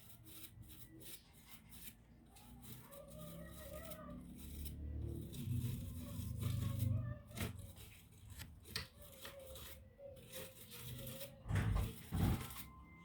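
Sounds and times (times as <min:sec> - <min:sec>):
rubbing and scraping: 0:00.0 - 0:13.0.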